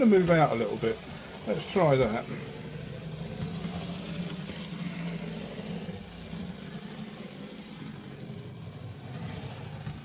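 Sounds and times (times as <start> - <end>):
model train motor humming: 0.0 - 10.0.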